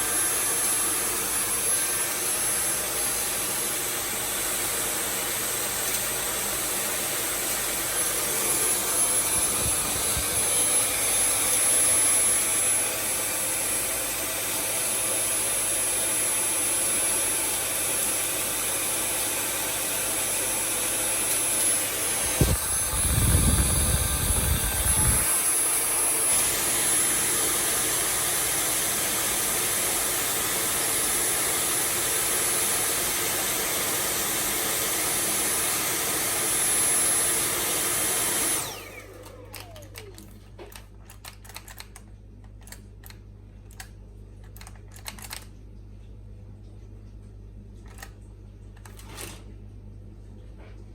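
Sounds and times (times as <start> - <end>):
handheld vacuum whining: 0.0 - 41.9.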